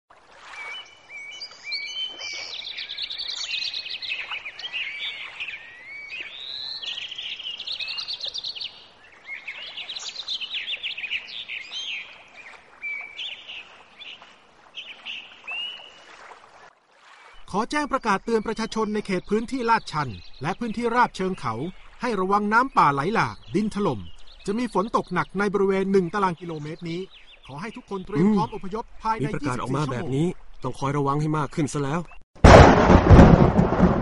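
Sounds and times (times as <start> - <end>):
birds chirping and trilling: 0.6 - 16.2, 17.4 - 32.2.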